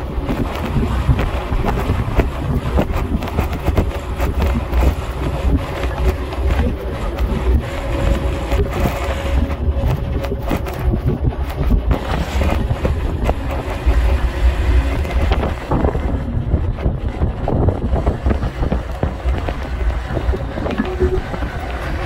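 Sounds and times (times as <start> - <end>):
vehicle road noise: 0.0 - 22.0
wind buffeting microphone: 0.0 - 22.0.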